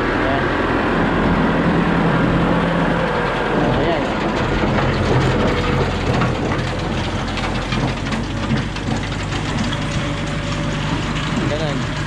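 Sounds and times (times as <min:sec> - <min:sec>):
tractor engine running: 0:00.0 - 0:12.0
loose rattling clatter: 0:00.6 - 0:12.0.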